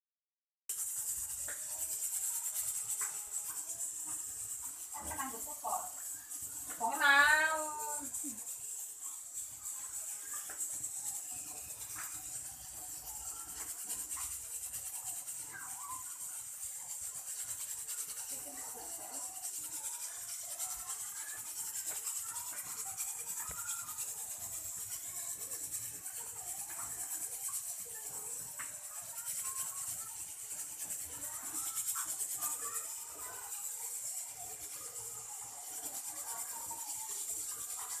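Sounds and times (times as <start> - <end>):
steady hiss: 0.7 - 38.0.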